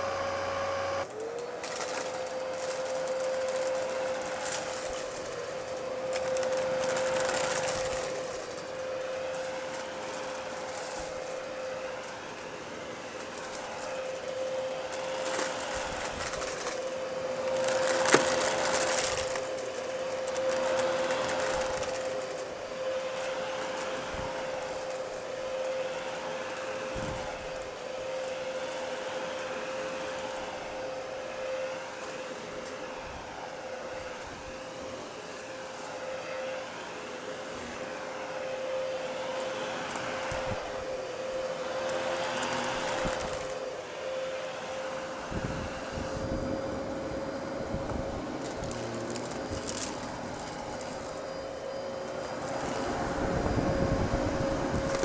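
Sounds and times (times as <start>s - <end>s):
vacuum cleaner motor whine: 0.0s - 55.0s
vacuum sucking up debris: 0.0s - 55.0s.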